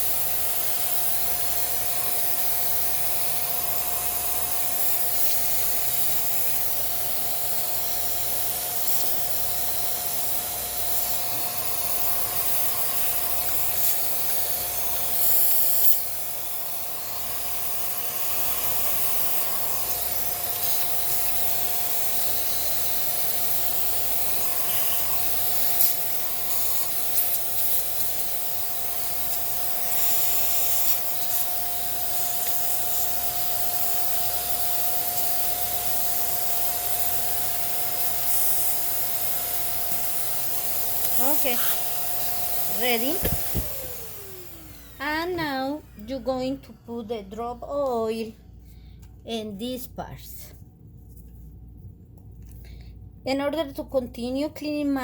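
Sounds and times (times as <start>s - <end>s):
small vacuum cleaner whining: 0.0s - 49.0s.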